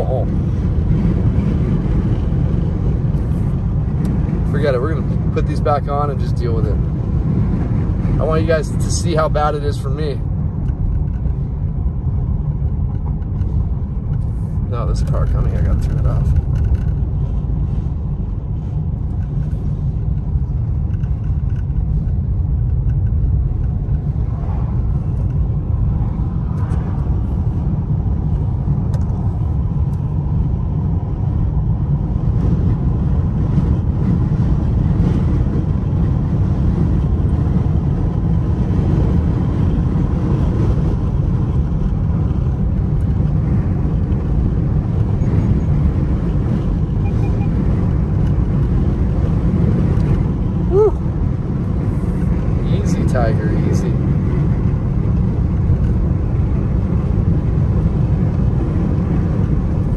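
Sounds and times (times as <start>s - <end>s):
car engine: 0.0s - 59.9s
road and tyre noise: 0.0s - 59.9s.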